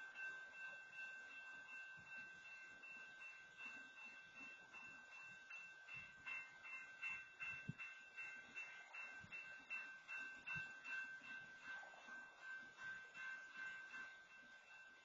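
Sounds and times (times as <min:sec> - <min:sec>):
faint railroad crossing bell: 0:00.0 - 0:15.0.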